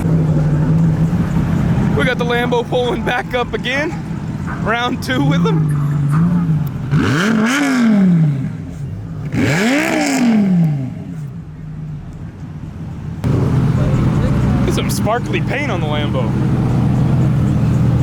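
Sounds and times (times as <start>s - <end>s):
sports car engine revving: 0.0s - 11.5s, 13.0s - 18.0s
low engine rumble: 0.0s - 18.0s.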